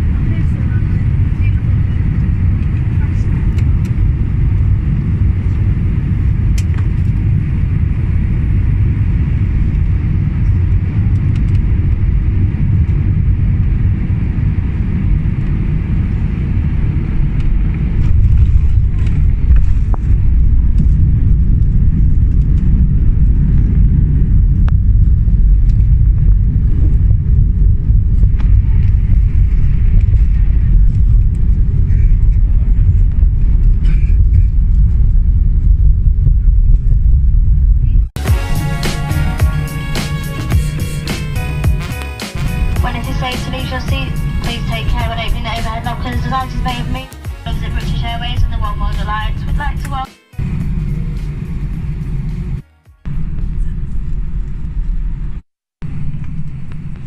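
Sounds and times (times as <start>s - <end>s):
aircraft cabin rumble: 0.0s - 57.0s.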